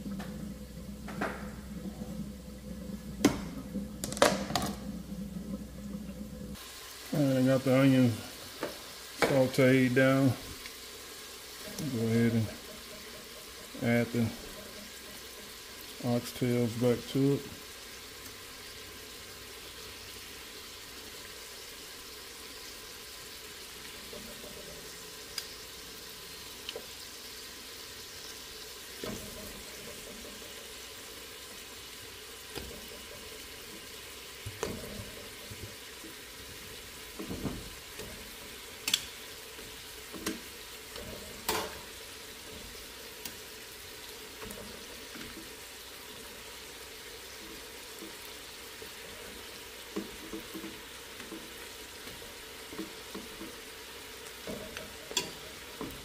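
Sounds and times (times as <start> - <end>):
meat and onion sizzling in a pot: 0.0 - 5.8, 6.4 - 56.0.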